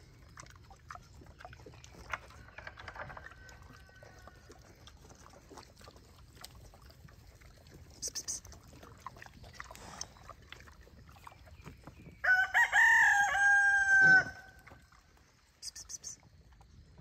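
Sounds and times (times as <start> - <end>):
pigs snuffling: 0.0 - 17.0.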